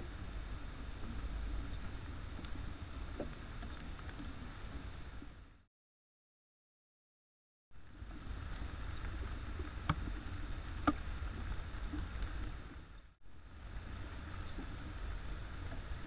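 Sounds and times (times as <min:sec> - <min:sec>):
steady rain hiss: 0:00.0 - 0:05.7, 0:07.8 - 0:16.0.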